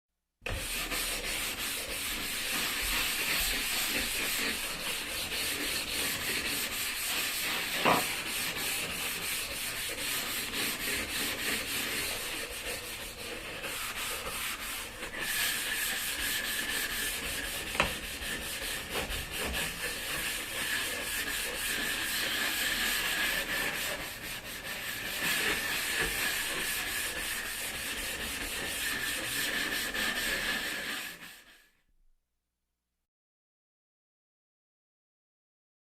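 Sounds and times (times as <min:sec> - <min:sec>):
brush scrubbing a floor: 0:00.4 - 0:31.8.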